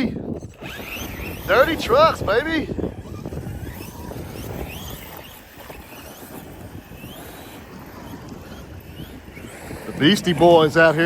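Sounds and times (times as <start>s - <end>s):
electric toy truck motors whining: 0.0s - 11.0s
wind rumble on microphone: 0.0s - 11.0s.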